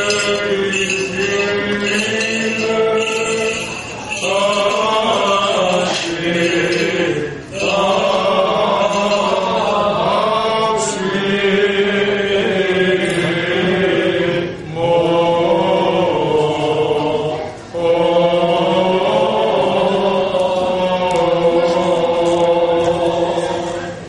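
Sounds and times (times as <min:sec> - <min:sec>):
slow melismatic chant: 0:00.0 - 0:24.0.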